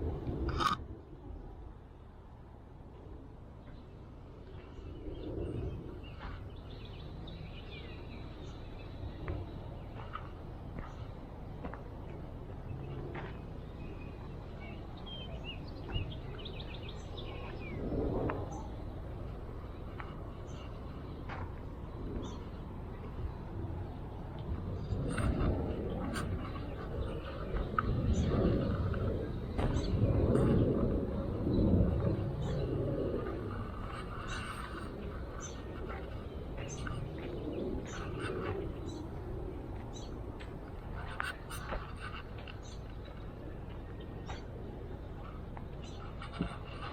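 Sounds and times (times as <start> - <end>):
low outdoor rumble: 0.0 - 46.9
small birds chirping: 3.6 - 46.9.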